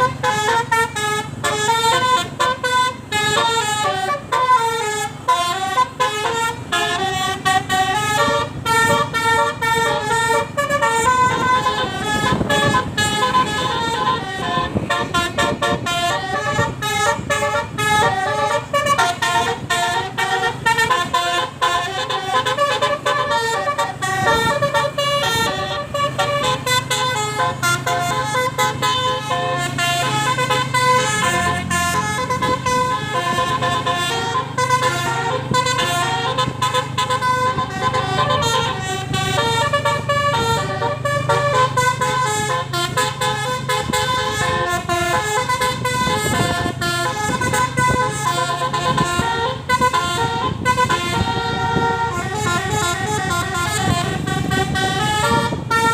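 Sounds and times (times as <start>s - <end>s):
low engine hum: 0.0s - 55.9s
musical bus air horn melody: 0.0s - 55.9s.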